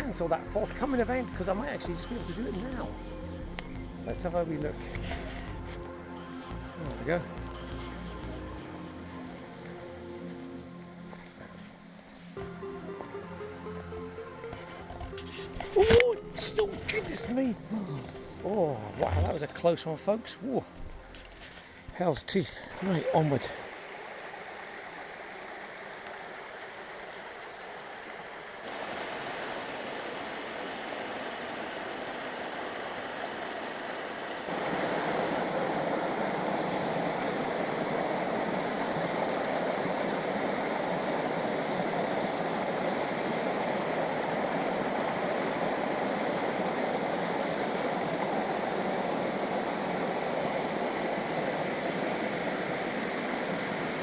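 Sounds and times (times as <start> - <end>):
stream water rushing: 8.2 - 54.0.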